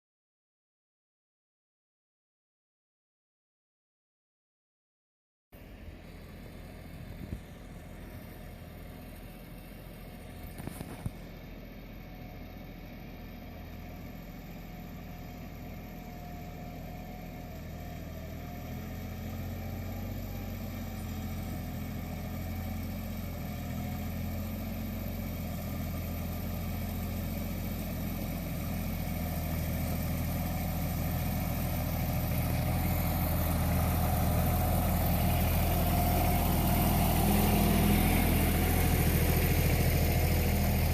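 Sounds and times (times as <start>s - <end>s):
tractor engine running: 5.6s - 40.9s.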